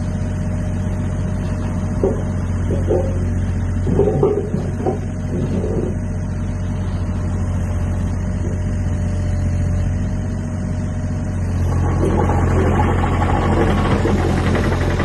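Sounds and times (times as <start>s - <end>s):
excavator diesel engine running: 0.0s - 15.0s
engine clatter: 0.9s - 10.2s, 11.3s - 15.0s.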